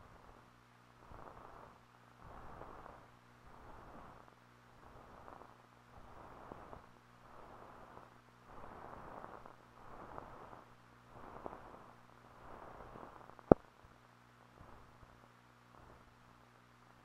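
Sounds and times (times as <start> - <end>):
faint crackles: 0.0 - 17.0
film hiss: 0.0 - 17.0.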